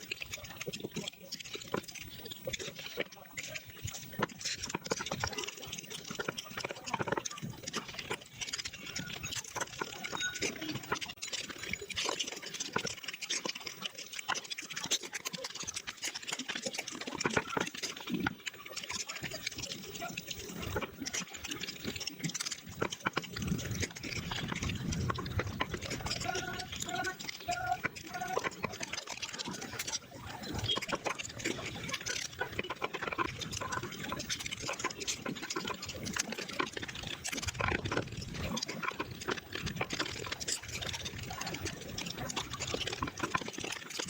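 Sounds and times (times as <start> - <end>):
sped-up wet chewing and slurping: 0.0 - 44.0.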